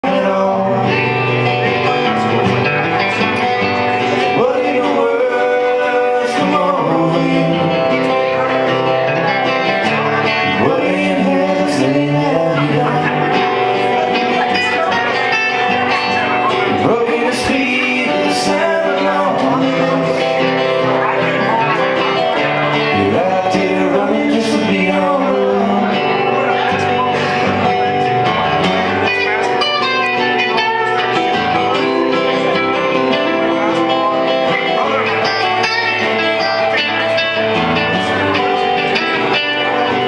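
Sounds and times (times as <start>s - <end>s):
band playing country-folk music: 0.0s - 40.0s
guitar: 0.0s - 40.0s.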